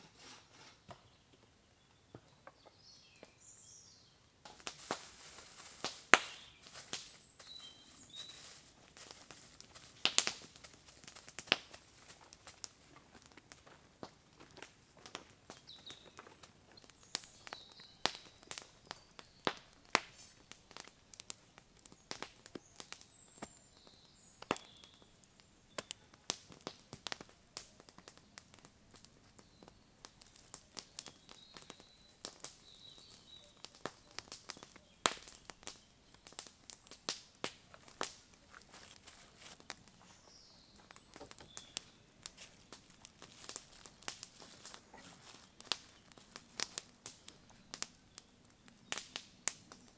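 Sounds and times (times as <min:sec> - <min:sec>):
birds chirping: 0:00.2 - 0:04.3, 0:06.2 - 0:10.5, 0:12.4 - 0:49.9
campfire crackling: 0:02.8 - 0:49.9.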